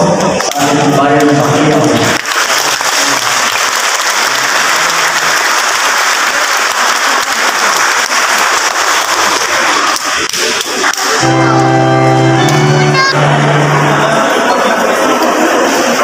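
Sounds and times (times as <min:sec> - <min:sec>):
congregation applauding: 0:00.2 - 0:16.0.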